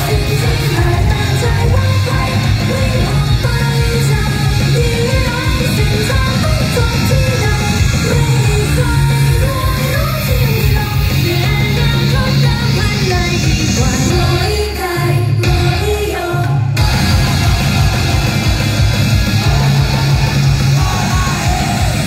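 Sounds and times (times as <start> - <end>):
rock backing track: 0.0 - 14.6, 15.4 - 22.0
female group singing live: 0.0 - 18.2.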